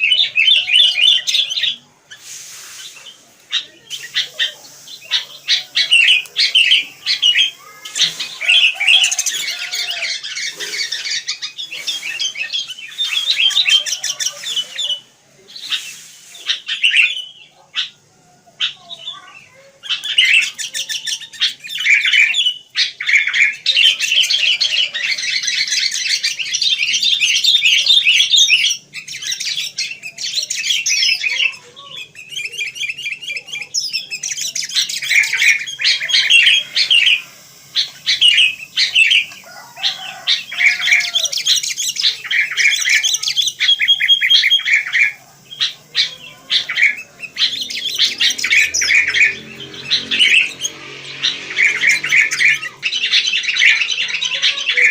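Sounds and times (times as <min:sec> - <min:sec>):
bulbuls chirping and chattering: 0:00.0 - 0:54.9.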